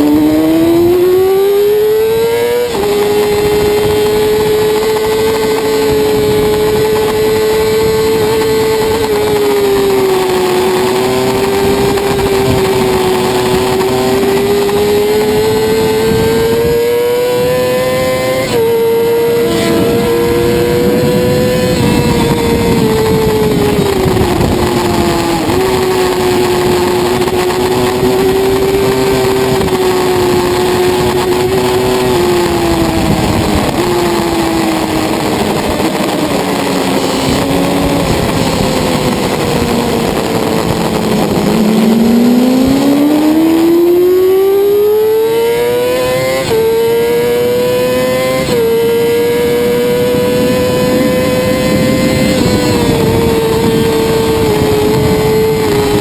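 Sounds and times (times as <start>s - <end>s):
sport bike engine revving: 0.0s - 56.0s
wind rush: 0.0s - 56.0s.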